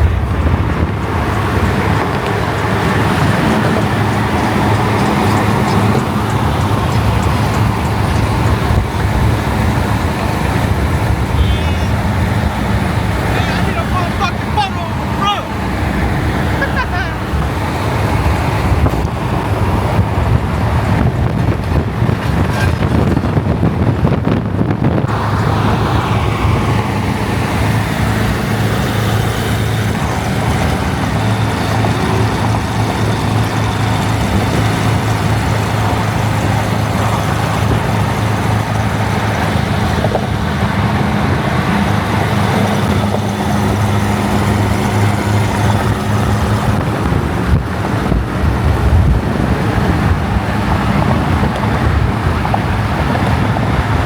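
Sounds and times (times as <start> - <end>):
car engine running: 0.0 - 54.0
traffic and road noise: 0.0 - 54.0.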